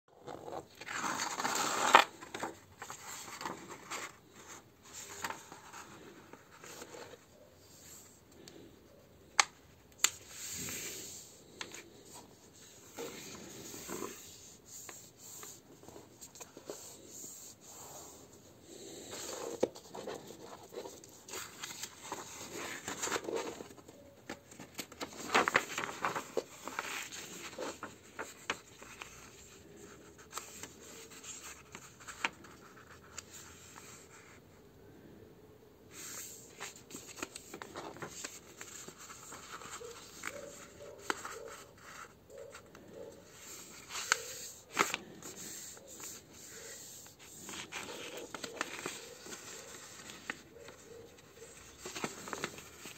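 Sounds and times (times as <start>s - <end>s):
paper rustling and creasing: 0.1s - 8.7s, 9.4s - 34.4s, 35.9s - 52.9s.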